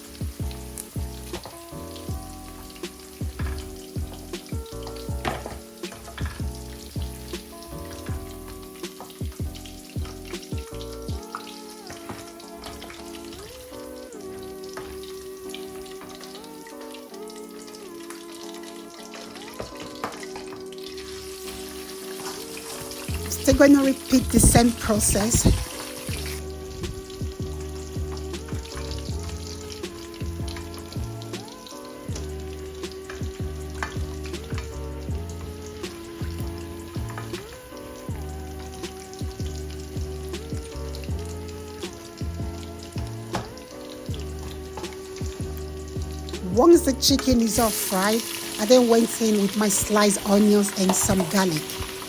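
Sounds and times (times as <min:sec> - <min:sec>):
background music: 0:00.0 - 0:52.0
chicken sizzling in oil: 0:00.0 - 0:52.0.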